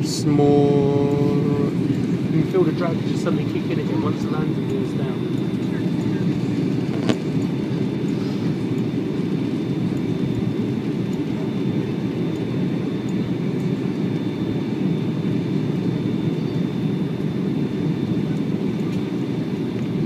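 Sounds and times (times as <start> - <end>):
engine and airflow rumble: 0.0 - 20.0
faint high whine: 0.0 - 20.0.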